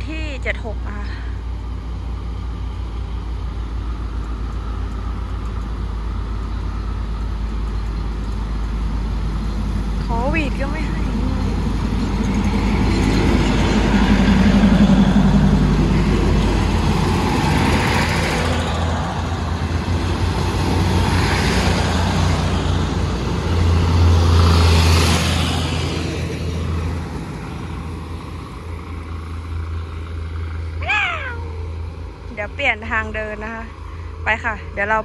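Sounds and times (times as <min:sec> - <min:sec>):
diesel engine drone: 0:00.0 - 0:35.0
train wheels rumbling: 0:00.0 - 0:35.0.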